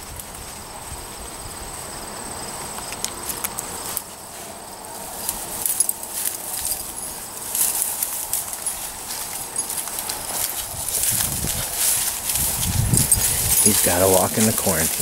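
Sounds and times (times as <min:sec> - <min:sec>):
dry weeds crackling and rustling: 0:00.0 - 0:15.0
high insect trill: 0:00.0 - 0:15.0.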